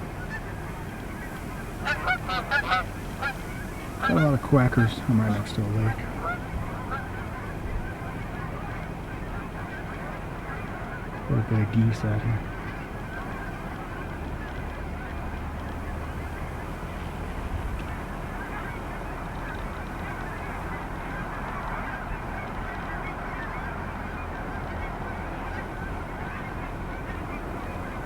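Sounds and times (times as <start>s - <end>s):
flock of geese honking: 0.0s - 28.0s.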